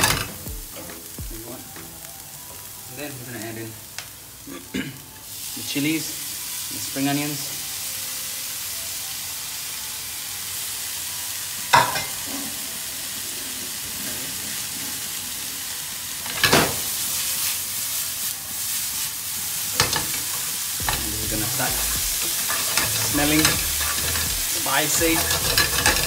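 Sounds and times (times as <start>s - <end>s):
aromatics sizzling in hot oil: 0.0s - 26.0s.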